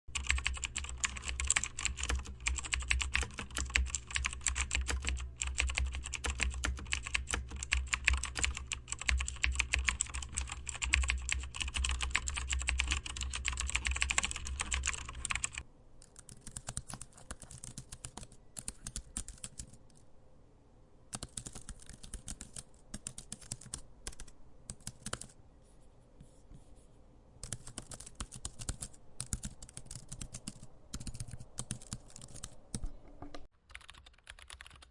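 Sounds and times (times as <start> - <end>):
typing on a keyboard: 0.1 - 20.0, 21.1 - 25.4, 27.4 - 34.9.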